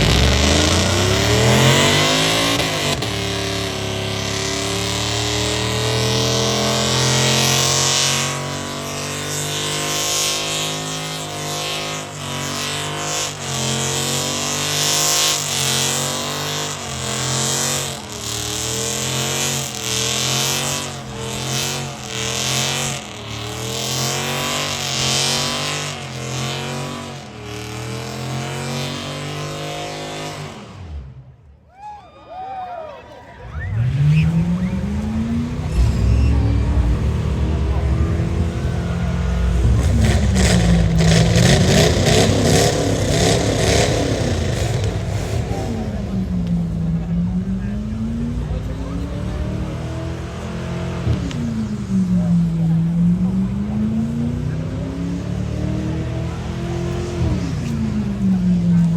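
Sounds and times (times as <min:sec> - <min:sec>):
car engine revving: 0:00.0 - 0:31.5, 0:33.4 - 0:58.9.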